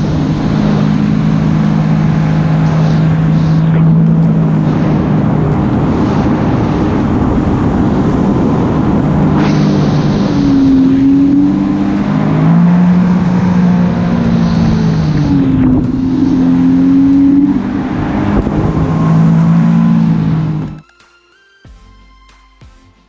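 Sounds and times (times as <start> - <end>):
jet ski engines revving: 0.0 - 20.8
wind and water noise: 0.0 - 20.8
quiet music: 0.0 - 23.0.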